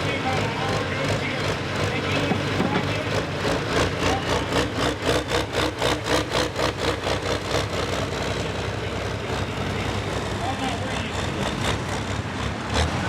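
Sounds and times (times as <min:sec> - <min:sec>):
tractor engine at full throttle: 0:00.0 - 0:13.0.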